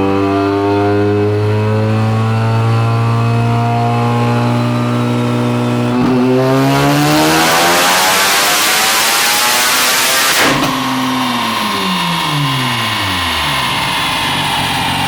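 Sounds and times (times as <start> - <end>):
rotary engine revving: 0.0 - 15.0.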